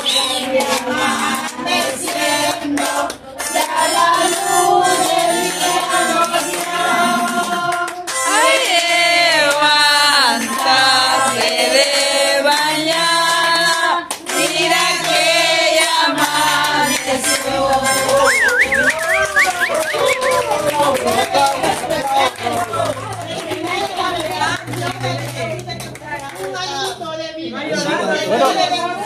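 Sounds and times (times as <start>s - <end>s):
group singing: 0.0s - 26.6s
people clapping: 0.0s - 27.2s.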